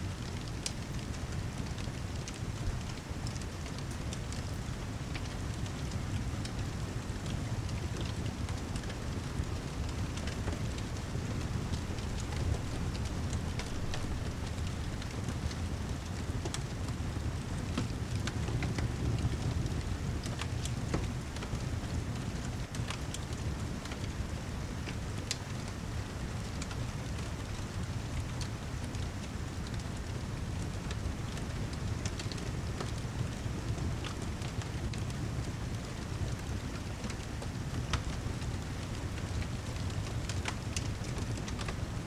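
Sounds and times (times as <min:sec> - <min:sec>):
steady rain: 0:00.0 - 0:42.0
wood fire crackling: 0:00.1 - 0:42.0.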